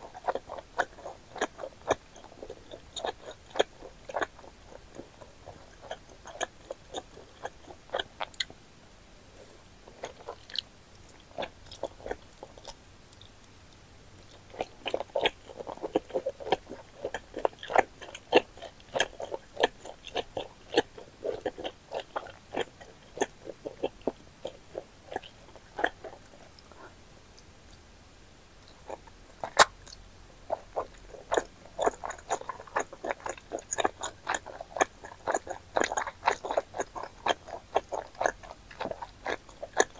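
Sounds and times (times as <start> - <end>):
wet chewing mouth clicks: 0.1 - 8.6, 9.4 - 27.8, 28.6 - 39.9.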